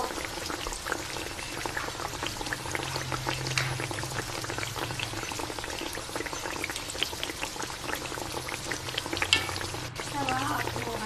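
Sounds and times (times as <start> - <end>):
ladle pouring liquid: 0.0 - 11.0
sauce bubbling in a wok: 0.0 - 11.0.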